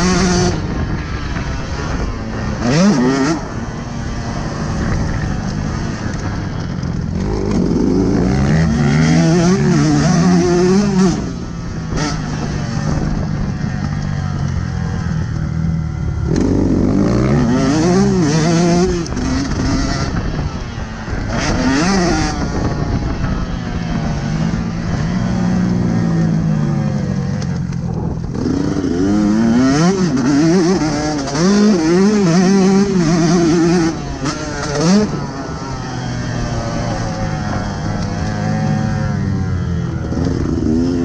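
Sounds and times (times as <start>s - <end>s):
two-stroke motorbike engine revving: 0.0s - 41.0s.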